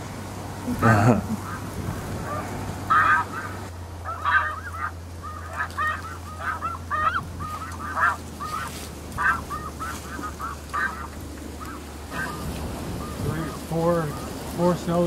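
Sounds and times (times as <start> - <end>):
low steady hum: 0.0 - 15.0
geese honking in flight: 1.3 - 15.0.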